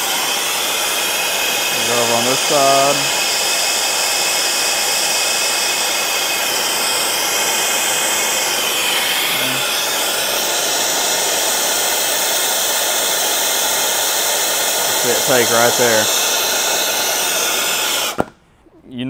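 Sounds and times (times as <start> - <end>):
torch flame hissing: 0.0 - 18.4.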